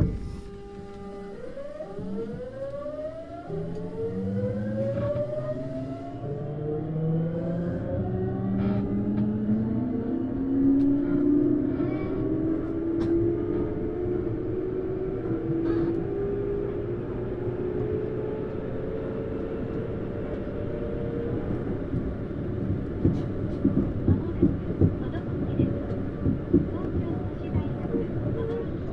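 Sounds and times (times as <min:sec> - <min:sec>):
train running rumble: 0:00.0 - 0:28.9.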